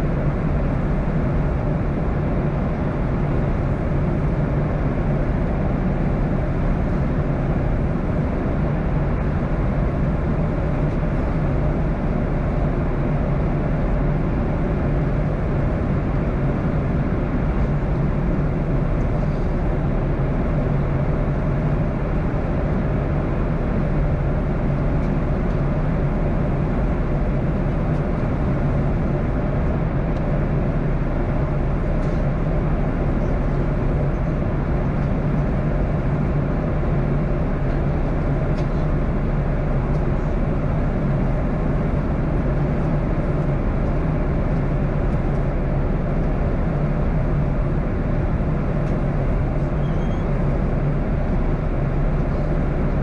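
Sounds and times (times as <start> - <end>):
jet engine drone: 0.0 - 53.0.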